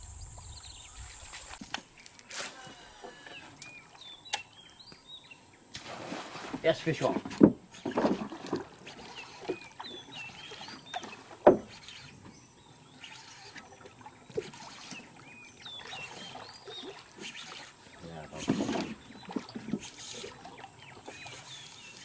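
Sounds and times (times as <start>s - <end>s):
birds chirping: 0.0s - 5.8s, 6.6s - 22.0s.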